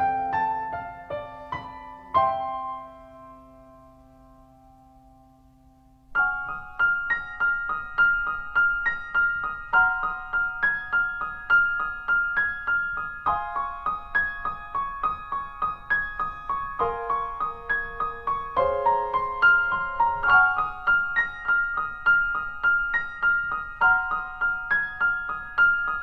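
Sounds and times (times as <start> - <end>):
quick repeating piano melody: 0.0 - 26.0.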